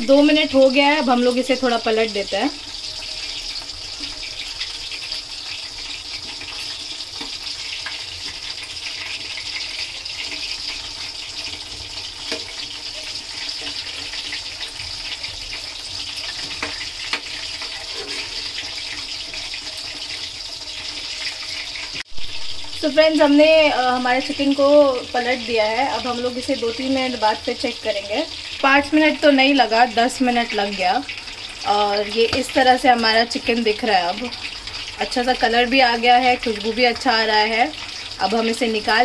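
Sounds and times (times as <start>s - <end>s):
chicken deep-frying in hot oil: 0.0s - 39.0s.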